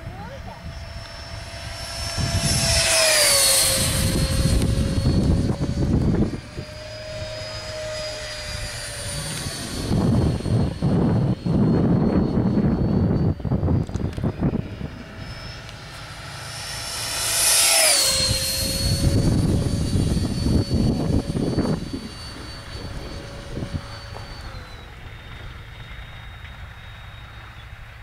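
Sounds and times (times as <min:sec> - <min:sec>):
low rumbling: 0:00.0 - 0:27.8
electric ducted fan whining: 0:00.0 - 0:28.0.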